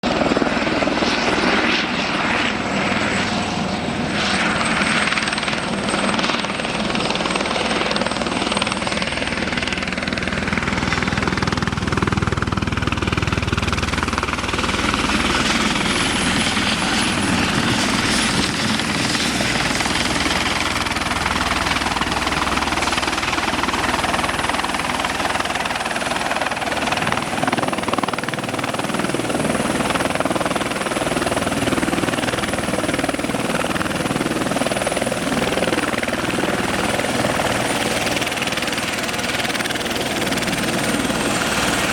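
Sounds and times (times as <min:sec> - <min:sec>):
helicopter turbine and rotor: 0:00.0 - 0:41.9.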